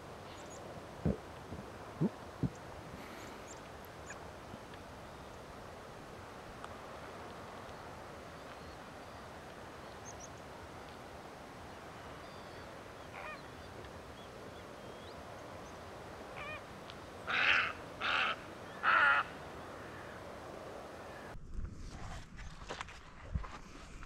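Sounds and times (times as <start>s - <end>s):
large water bird calling: 0.0s - 21.4s
steady background hiss: 0.0s - 21.4s.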